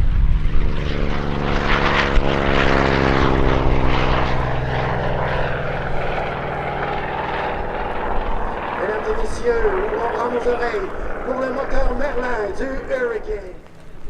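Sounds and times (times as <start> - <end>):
piston aircraft engine drone: 0.0 - 14.0.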